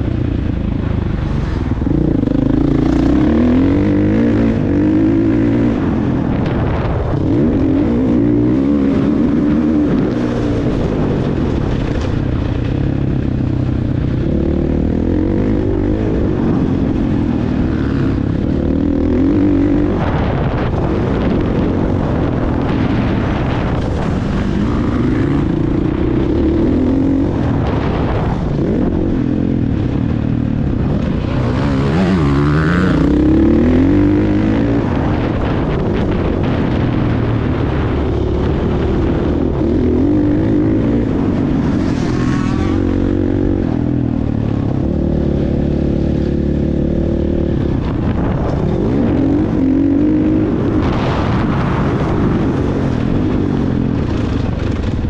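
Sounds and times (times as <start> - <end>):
steady rushing noise: 0.0 - 55.0
motocross bike engine revving: 1.7 - 12.2, 14.0 - 55.0.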